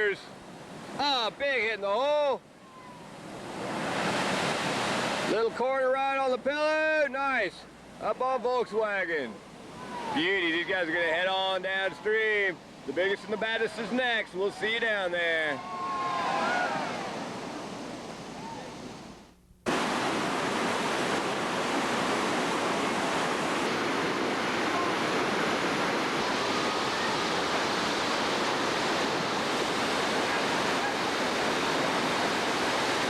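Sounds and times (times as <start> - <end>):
whitewater rapid rushing: 0.0 - 6.0, 8.0 - 19.0, 19.7 - 33.0.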